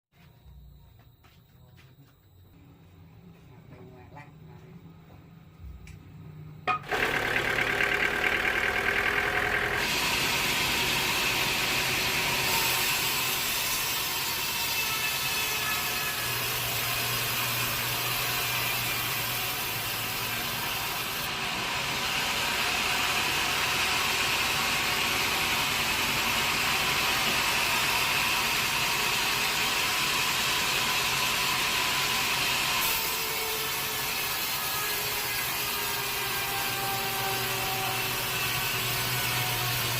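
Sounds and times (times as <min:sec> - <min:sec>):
sawmill saw cutting log: 0:06.7 - 0:39.9.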